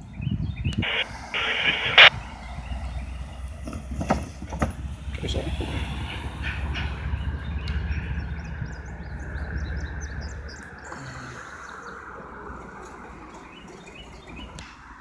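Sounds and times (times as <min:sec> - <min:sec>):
diesel locomotive rumble: 0:00.0 - 0:14.7
birds chirping: 0:00.0 - 0:14.9.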